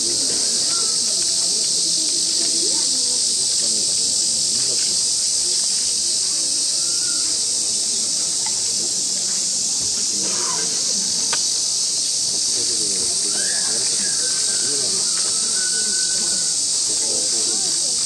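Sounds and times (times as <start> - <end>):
cicadas chorus: 0.0 - 18.0
faint murmuring voices: 0.0 - 18.0.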